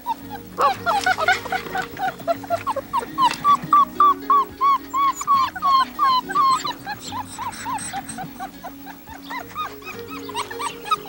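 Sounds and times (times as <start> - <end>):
background music: 0.0 - 11.0
puppies whimpering: 0.0 - 11.0.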